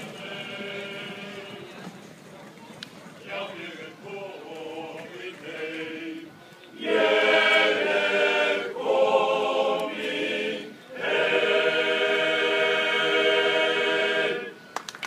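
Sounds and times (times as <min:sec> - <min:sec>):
men's choir singing a cappella: 0:00.0 - 0:01.9, 0:03.2 - 0:14.7.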